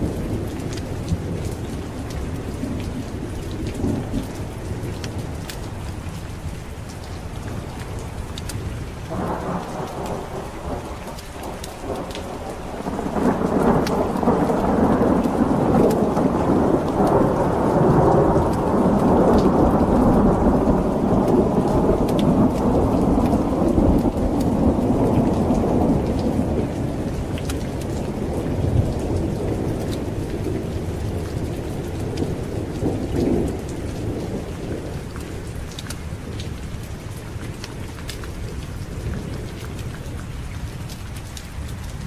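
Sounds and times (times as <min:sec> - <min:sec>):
rolling thunder: 0:00.0 - 0:05.9, 0:07.4 - 0:36.6
steady rain: 0:00.0 - 0:42.0.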